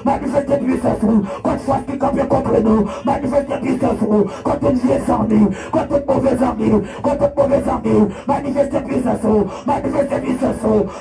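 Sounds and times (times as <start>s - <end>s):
person chanting fast: 0.0s - 11.0s.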